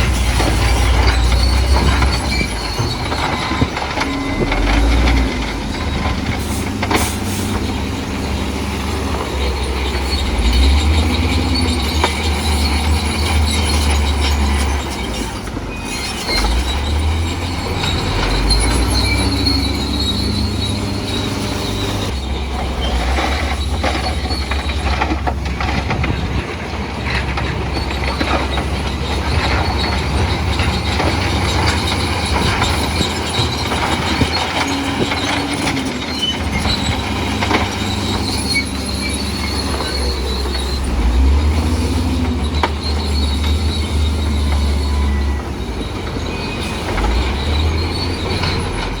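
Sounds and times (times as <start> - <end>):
bulldozer diesel engine rumble: 0.0 - 49.0
steel tracks squealing and clanking: 0.0 - 49.0.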